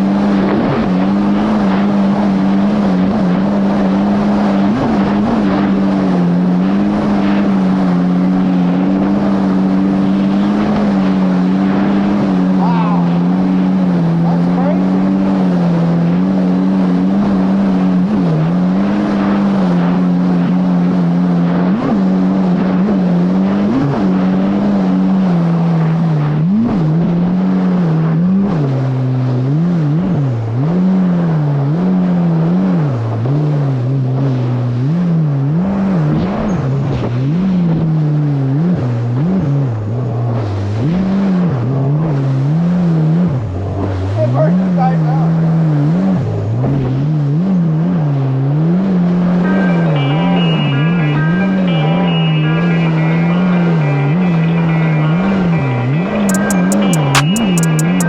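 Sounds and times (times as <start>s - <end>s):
jet ski engine at speed: 0.0s - 58.0s.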